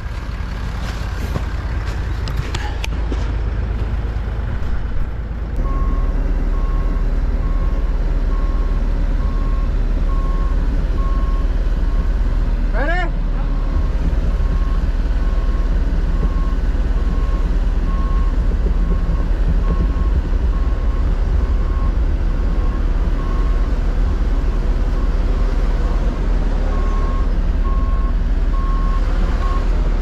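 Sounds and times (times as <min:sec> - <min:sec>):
heavy vehicle engine rumbling: 0:00.0 - 0:30.0.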